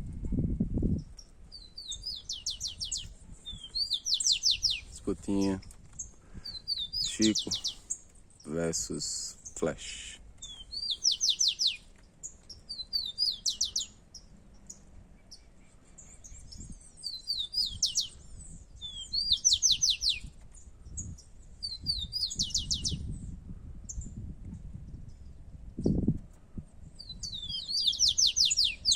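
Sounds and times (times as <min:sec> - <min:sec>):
sparrows singing: 0:00.9 - 0:24.2, 0:24.8 - 0:28.9.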